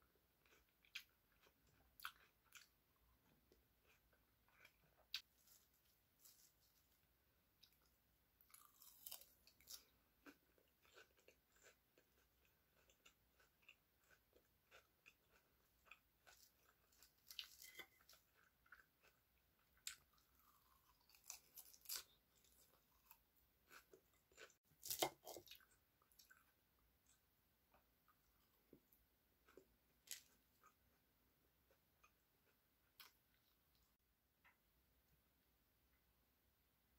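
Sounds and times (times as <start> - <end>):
chewing crisp salad: 0.4 - 7.0, 7.6 - 31.0.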